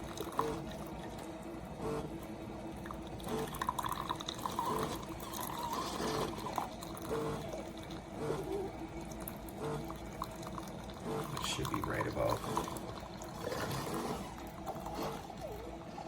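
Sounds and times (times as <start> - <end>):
coffee maker spitting and dribbling: 0.0 - 16.0.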